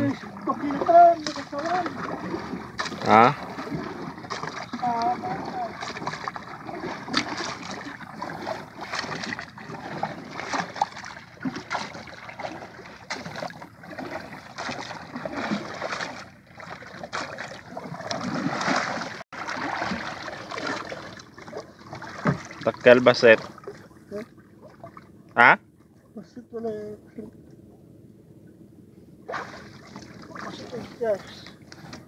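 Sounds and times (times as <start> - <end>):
water lapping against canoe hull: 0.0 - 32.0.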